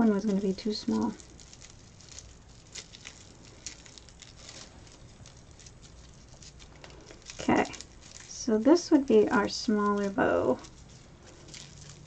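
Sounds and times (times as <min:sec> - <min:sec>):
raffia rustling and crackling: 0:00.0 - 0:12.0.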